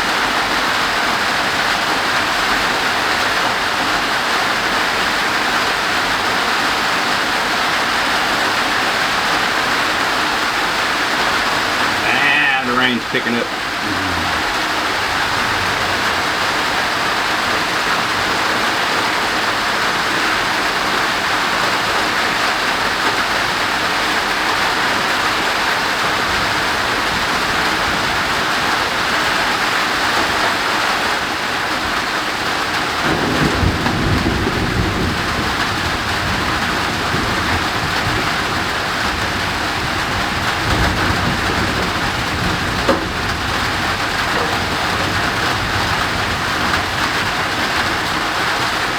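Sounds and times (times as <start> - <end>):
heavy rain drumming on a roof: 0.0 - 48.9.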